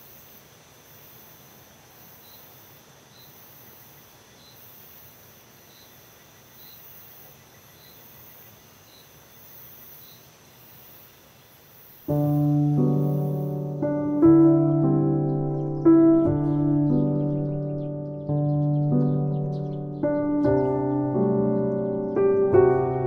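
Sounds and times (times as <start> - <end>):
insect chirps: 0.0 - 23.0
insects trilling: 0.0 - 23.0.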